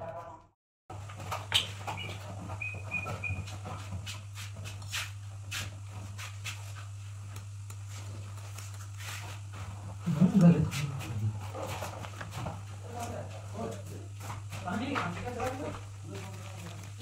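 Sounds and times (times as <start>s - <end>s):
steady low hum: 1.0s - 17.0s.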